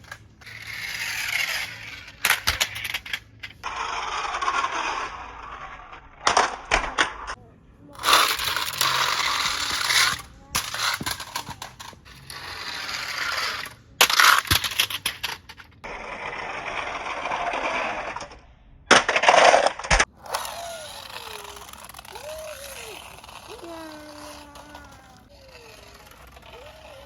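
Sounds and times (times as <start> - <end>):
toy cars rattling down a slide: 0.0 - 7.4, 8.0 - 27.0
toy cars clattering: 0.0 - 27.0.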